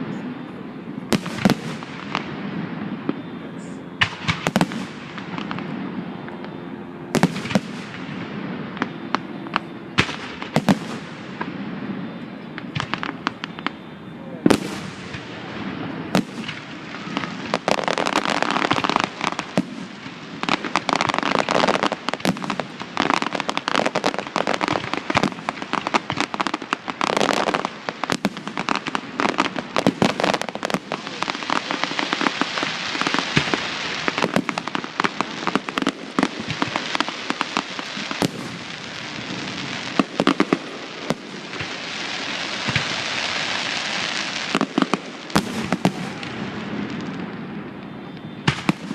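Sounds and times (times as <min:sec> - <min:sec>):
fireworks crackling hiss: 0:00.0 - 0:06.5, 0:07.1 - 0:48.9
fireworks bangs: 0:00.0 - 0:48.9.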